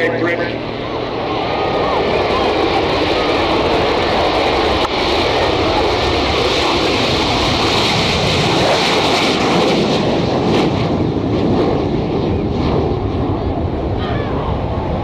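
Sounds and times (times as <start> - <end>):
aircraft engine roar: 0.0 - 15.0.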